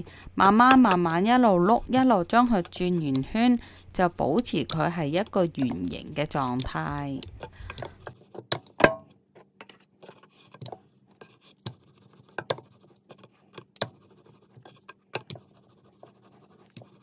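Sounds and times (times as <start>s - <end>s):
rolling pin scraping on dough: 0.4s - 8.7s, 9.3s - 17.0s.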